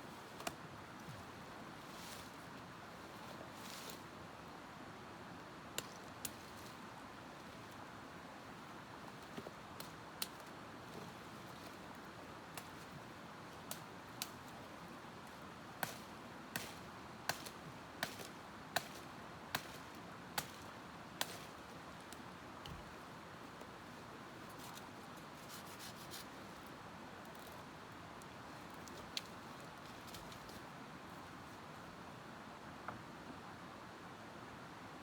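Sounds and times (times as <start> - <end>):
steady outdoor hiss: 0.0 - 35.0.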